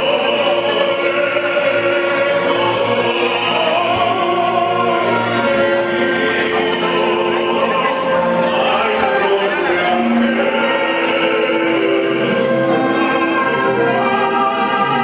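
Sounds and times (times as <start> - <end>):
man singing opera into microphone: 0.0 - 15.0.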